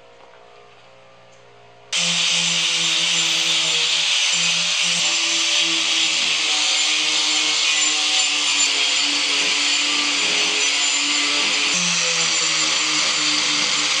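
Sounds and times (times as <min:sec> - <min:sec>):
angle grinder cutting wood: 0:02.0 - 0:14.0.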